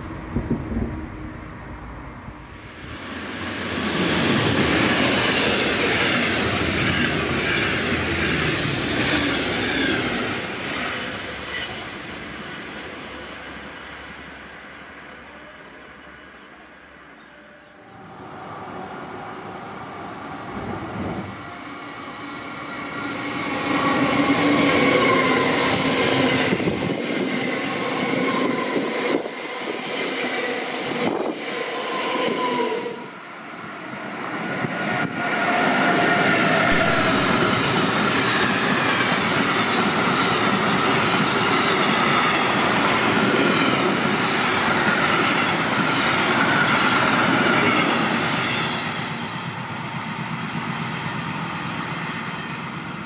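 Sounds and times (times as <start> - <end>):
freight train rolling past: 0.0 - 53.0
train crossing bridge: 0.0 - 53.0.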